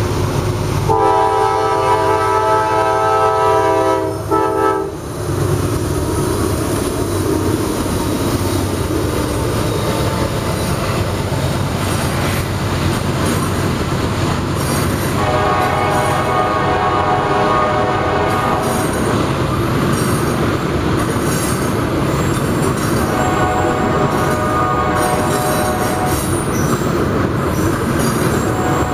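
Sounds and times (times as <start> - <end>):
diesel locomotive rumbling: 0.0 - 28.9
train wheels on rails: 0.0 - 28.9.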